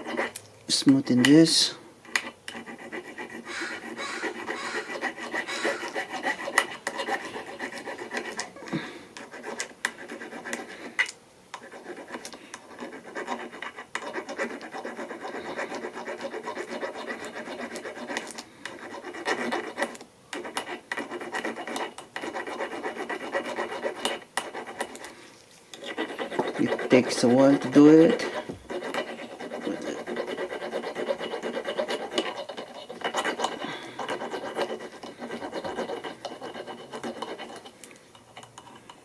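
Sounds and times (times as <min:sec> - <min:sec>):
filing scraping metal: 0:00.0 - 0:00.4, 0:02.1 - 0:08.6, 0:11.6 - 0:25.1, 0:25.7 - 0:39.0.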